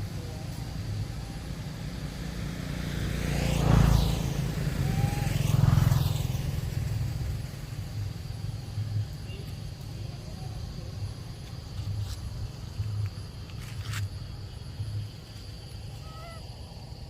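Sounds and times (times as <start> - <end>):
low rumble of traffic: 0.0 - 17.0
motor vehicles passing close: 0.0 - 17.0.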